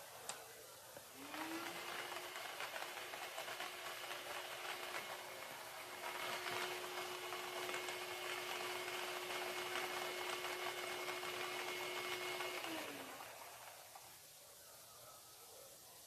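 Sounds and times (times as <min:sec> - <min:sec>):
motor hum: 0:01.1 - 0:14.2.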